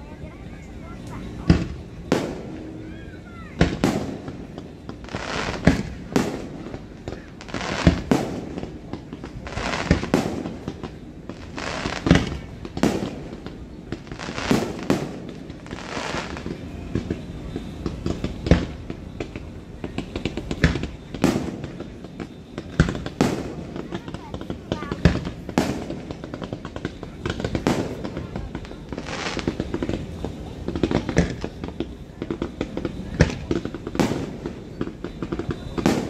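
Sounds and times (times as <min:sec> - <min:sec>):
fireworks bursting with crackles: 0:00.0 - 0:36.0.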